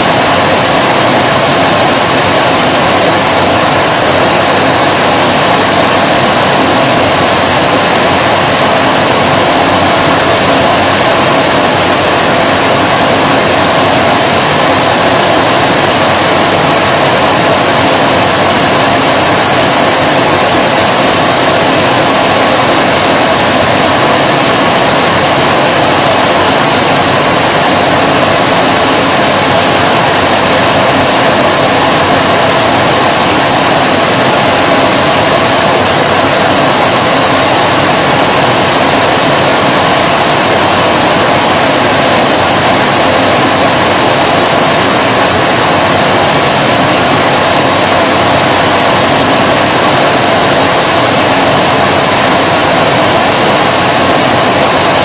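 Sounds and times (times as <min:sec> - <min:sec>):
vacuum cleaner motor running: 0:00.0 - 0:55.0.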